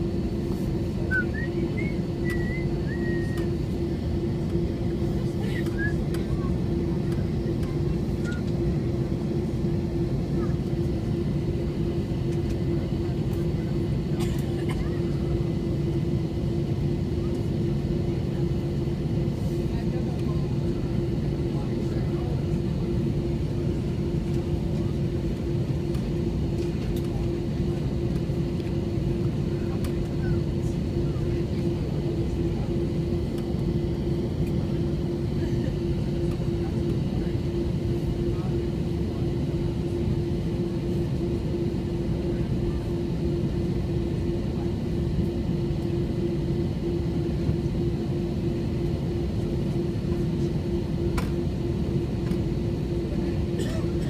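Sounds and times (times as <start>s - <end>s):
constant low hum: 0.0s - 54.0s
jet engines rumbling: 0.0s - 54.0s.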